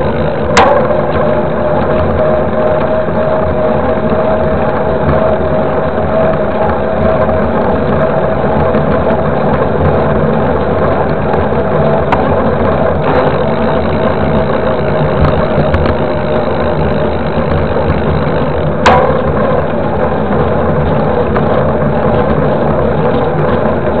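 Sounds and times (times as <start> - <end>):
bike tyre road noise: 0.0 - 24.0
constant hum: 0.0 - 24.0.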